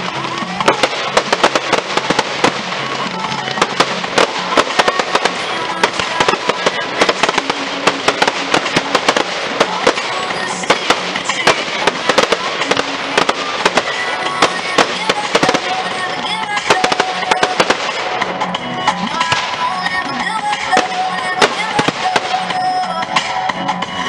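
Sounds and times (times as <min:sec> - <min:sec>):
fireworks bangs and crackles: 0:00.0 - 0:24.0
music playing: 0:00.0 - 0:24.0.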